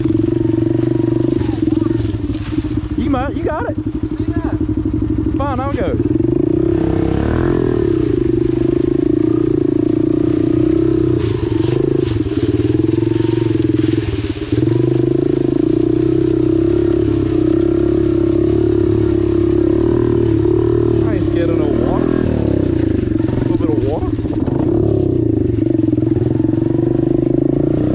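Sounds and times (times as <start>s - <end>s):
dirt bike engine running: 0.0s - 27.9s.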